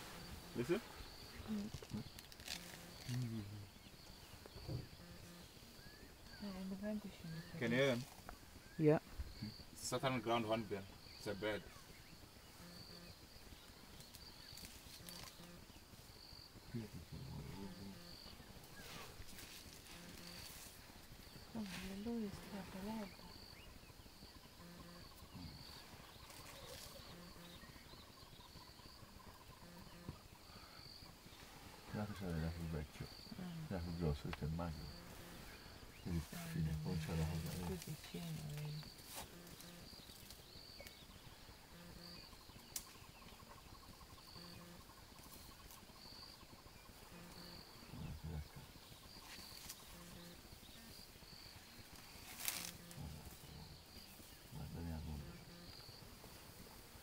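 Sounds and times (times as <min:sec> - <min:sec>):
faint bush ambience: 0:00.0 - 0:57.0
high insect or bird chirps: 0:00.0 - 0:57.0.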